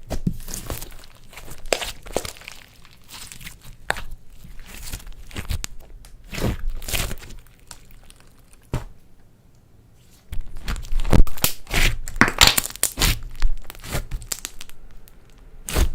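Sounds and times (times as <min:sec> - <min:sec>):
slime squishing and crackling: 0:00.0 - 0:09.0, 0:10.3 - 0:15.9.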